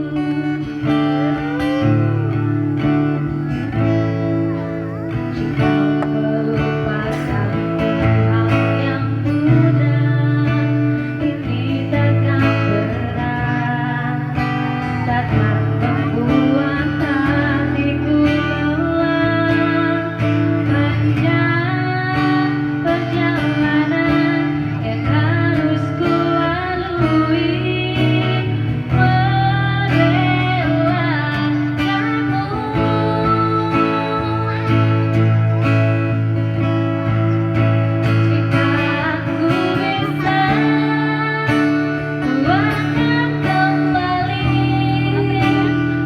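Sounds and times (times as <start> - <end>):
person singing: 0.0 - 46.0
strummed acoustic guitar: 0.0 - 46.0.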